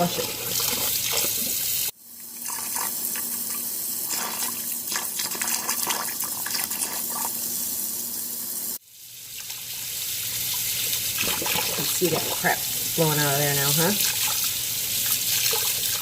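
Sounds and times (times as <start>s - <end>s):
tap water running and splashing: 0.0s - 16.0s.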